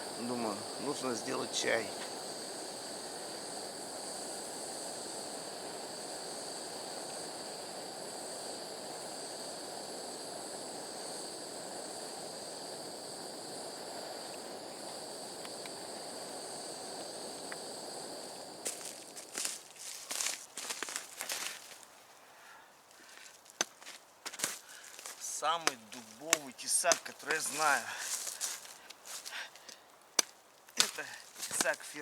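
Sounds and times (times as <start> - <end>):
constant rushing hiss: 0.0 - 32.0
insects chirring: 0.0 - 32.0.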